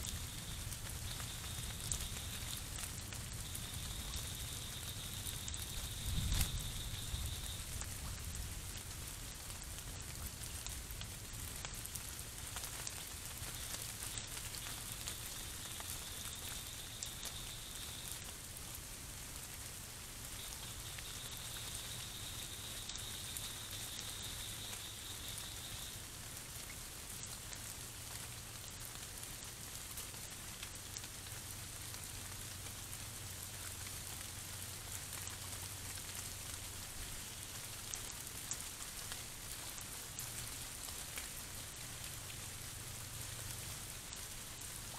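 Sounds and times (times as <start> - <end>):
steady microphone hiss: 0.0 - 44.9.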